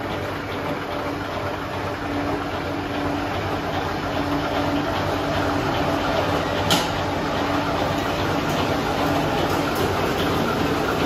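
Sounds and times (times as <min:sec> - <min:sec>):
wire stripping machine rumbling: 0:00.0 - 0:11.0.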